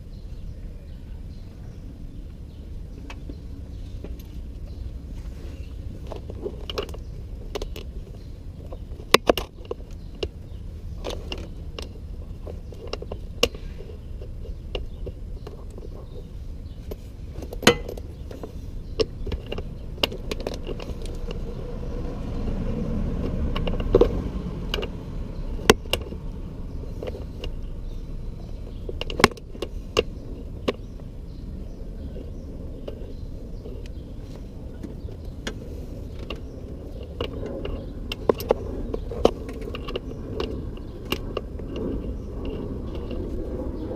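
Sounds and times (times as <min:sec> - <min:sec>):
steady low rumble: 0:00.0 - 0:43.9
sharp metallic clicks and knocks: 0:05.8 - 0:43.9.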